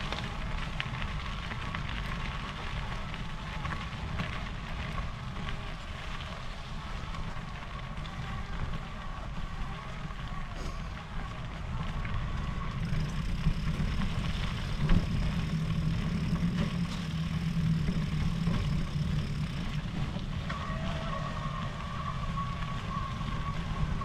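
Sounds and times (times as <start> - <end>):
heavy rumble: 0.0 - 24.0
electric bike motor whine: 0.1 - 24.0.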